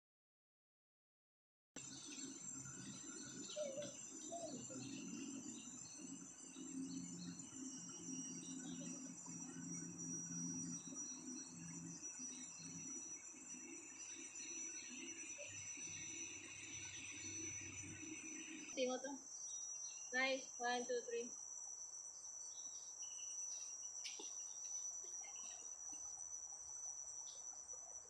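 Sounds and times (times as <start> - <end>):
high-pitched insect drone: 1.8 - 28.0.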